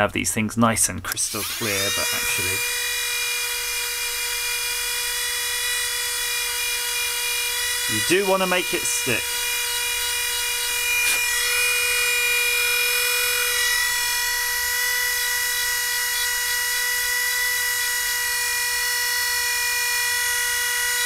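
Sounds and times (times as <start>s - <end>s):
rotary tool high whine: 1.1s - 21.0s.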